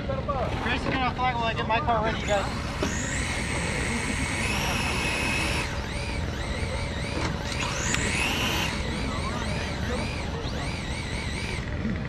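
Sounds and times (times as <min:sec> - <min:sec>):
high-pitched electric motor whine: 0:00.2 - 0:12.0.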